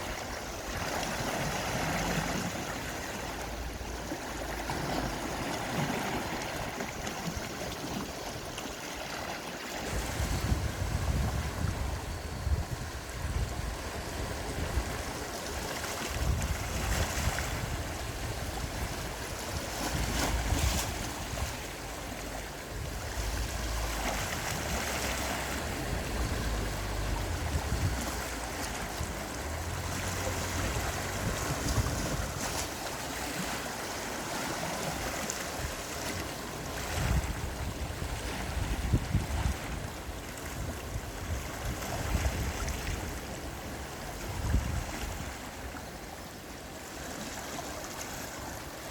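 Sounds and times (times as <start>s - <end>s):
wind rumbling on microphone: 0.0s - 46.2s
sea waves washing in: 0.0s - 48.9s.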